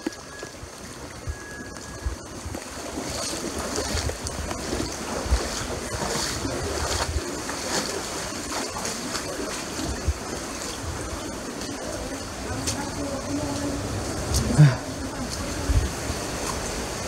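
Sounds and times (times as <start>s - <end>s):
floodwater sloshing and splashing: 0.0s - 17.0s.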